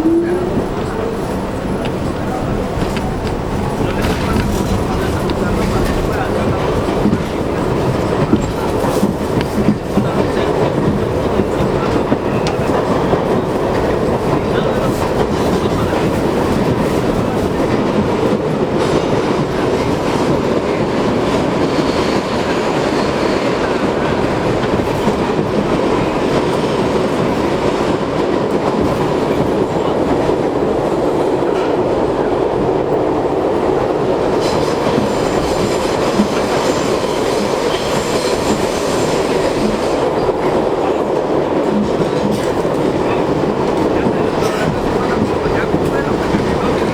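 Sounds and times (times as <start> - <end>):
clickety-clack over rail joints: 0.0 - 46.9
subway wheels rumbling on rails: 0.0 - 46.9.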